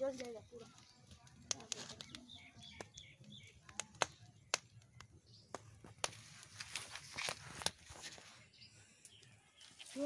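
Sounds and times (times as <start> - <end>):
sharp pops from fire: 0.0 - 8.2
birds chirping: 0.0 - 10.0
wood fire crackling: 0.0 - 10.0.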